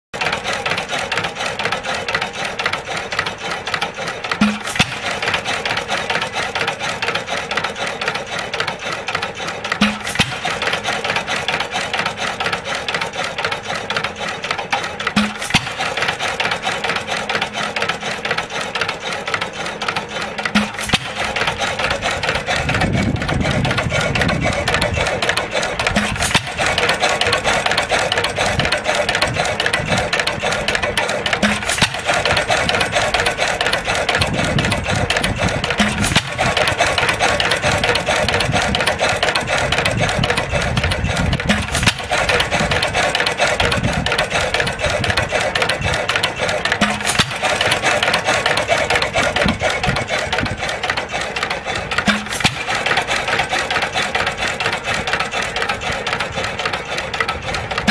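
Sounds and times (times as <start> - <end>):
engine valve gear clatter: 0.2 - 57.9.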